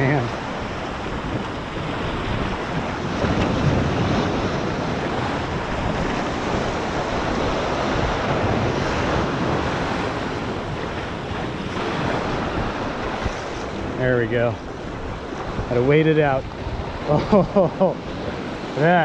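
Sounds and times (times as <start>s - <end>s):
surf splashing over rocks: 0.0s - 19.0s
wind buffeting microphone: 0.0s - 19.0s.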